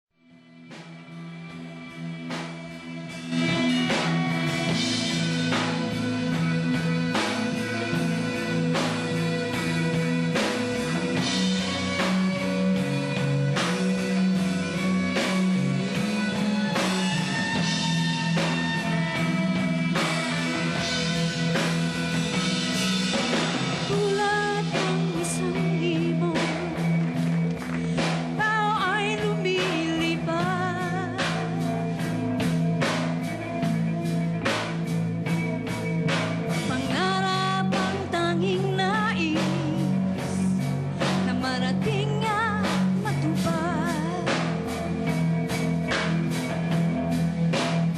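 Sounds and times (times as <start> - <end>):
live rock band playing: 0.2 - 47.9.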